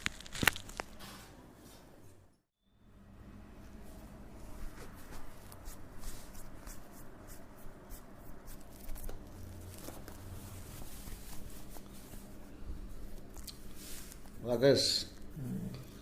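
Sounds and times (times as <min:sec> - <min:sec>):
steady low hum: 0:01.8 - 0:16.0.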